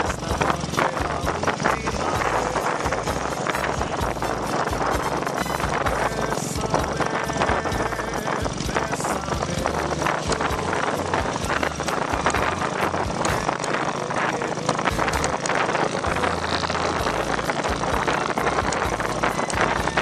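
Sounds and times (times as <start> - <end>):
road noise: 0.0 - 20.0
wind buffeting microphone: 0.0 - 20.0.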